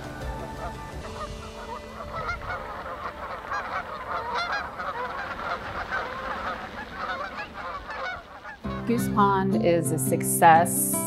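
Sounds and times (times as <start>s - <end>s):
geese honking in flight: 0.0s - 9.2s.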